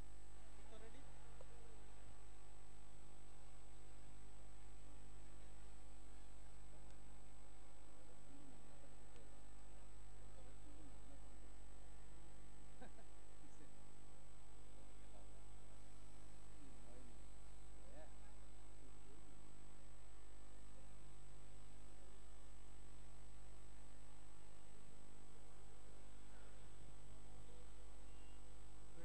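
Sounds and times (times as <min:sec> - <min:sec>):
electrical mains hum: 0:00.0 - 0:29.0
high-pitched whine: 0:00.0 - 0:29.0.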